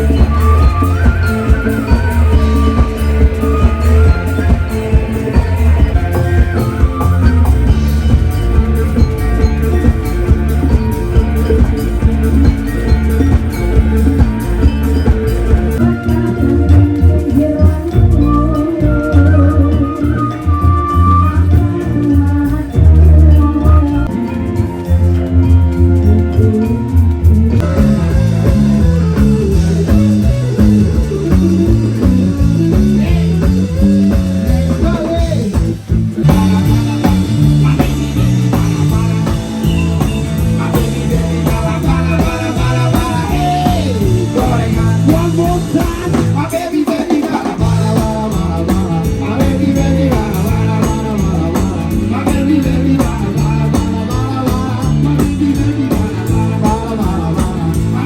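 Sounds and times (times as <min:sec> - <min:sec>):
music with beat and guitar: 0:00.0 - 0:58.0
person singing: 0:00.0 - 0:58.0.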